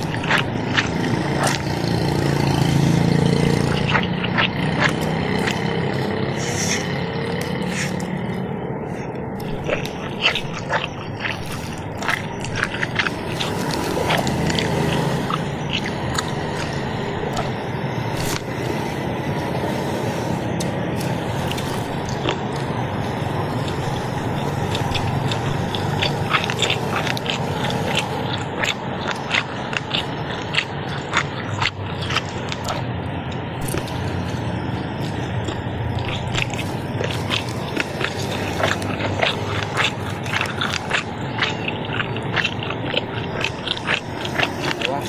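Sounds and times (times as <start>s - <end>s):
crusty bread crunching: 0.0s - 18.7s, 21.0s - 45.0s
chewing: 0.0s - 45.0s.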